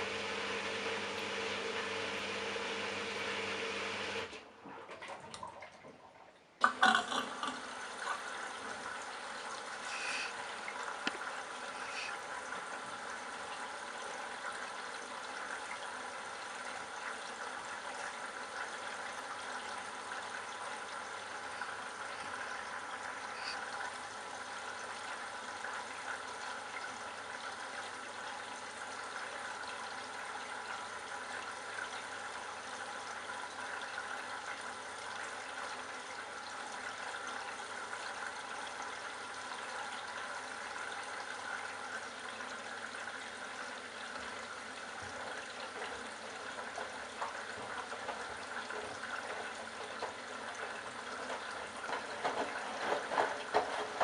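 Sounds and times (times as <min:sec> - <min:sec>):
water running into washing machine: 0:00.0 - 0:54.0.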